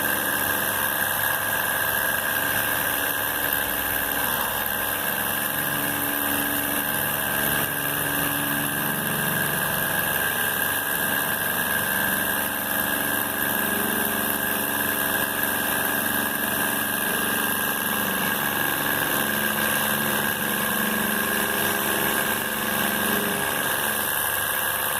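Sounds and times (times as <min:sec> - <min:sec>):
machine whining and humming: 0:00.0 - 0:24.9.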